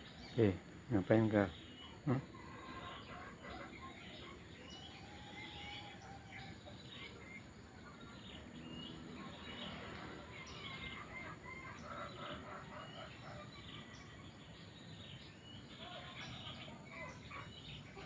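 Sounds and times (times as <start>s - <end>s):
birds chirping: 0.0s - 18.0s
chickens: 0.0s - 18.0s
low background noise: 0.0s - 18.0s.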